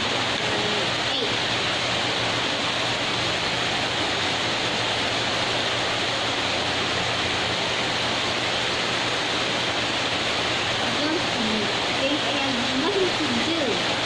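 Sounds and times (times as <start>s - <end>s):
fountain water splashing into pond: 0.0s - 14.0s.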